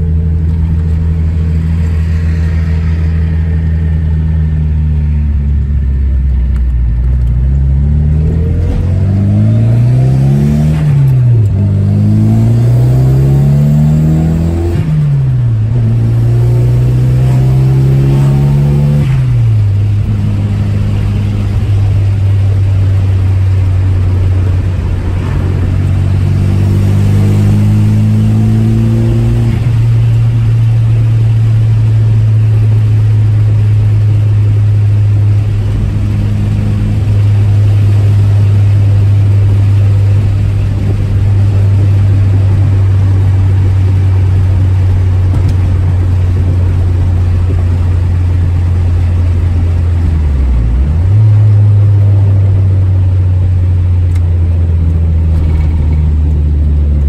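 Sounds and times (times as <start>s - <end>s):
car engine droning: 0.0s - 57.0s
road noise: 0.0s - 57.0s.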